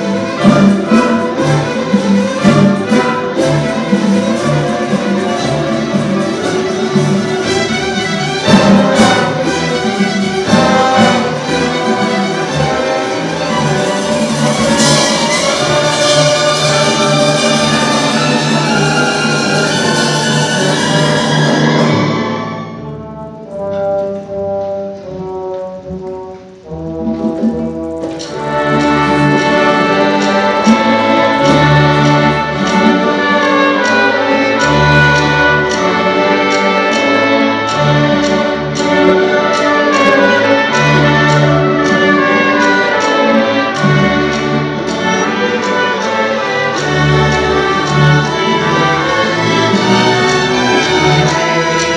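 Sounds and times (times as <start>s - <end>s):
orchestra playing classical piece: 0.0s - 51.9s.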